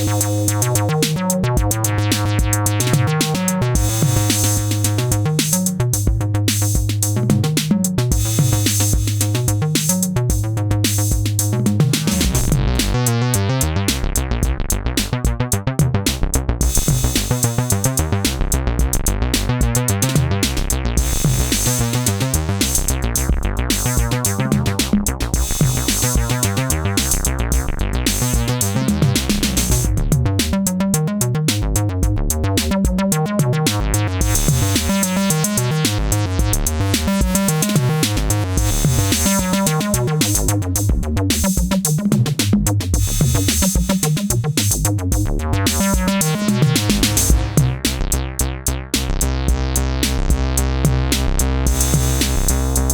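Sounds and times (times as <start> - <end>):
drum machine beat: 0.0 - 48.3, 49.0 - 52.9
synthesizer bass line: 0.0 - 52.9.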